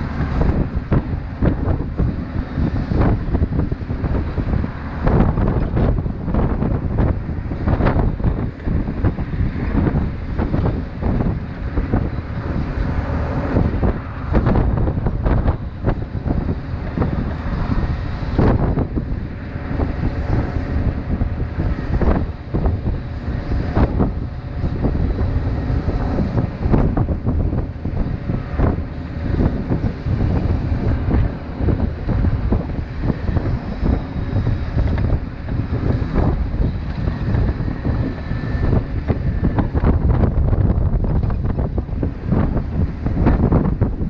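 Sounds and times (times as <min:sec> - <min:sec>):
steady low rumble: 0:00.0 - 0:44.0
wind buffeting microphone: 0:00.0 - 0:44.0.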